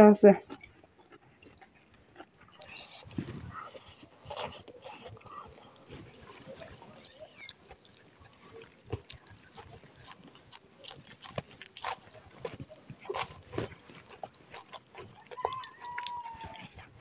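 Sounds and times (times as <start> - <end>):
person chewing noodles: 0.4 - 17.0.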